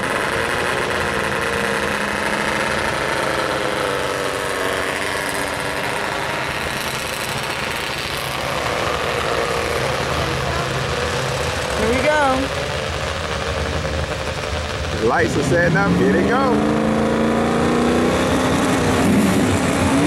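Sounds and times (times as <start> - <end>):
race car engines idling: 0.0 - 20.0.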